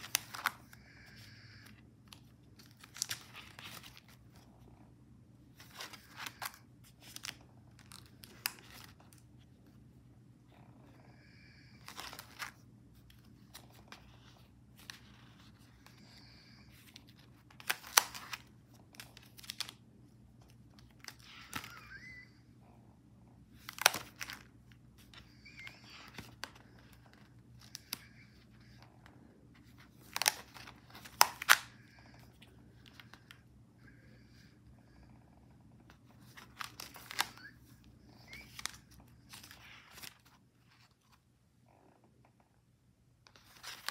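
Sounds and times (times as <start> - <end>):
stiff pages crackling and flapping: 0.0 - 4.5, 5.4 - 9.8, 11.6 - 22.4, 23.5 - 34.5, 35.8 - 41.2, 43.2 - 43.9
faint low hum: 0.0 - 43.9.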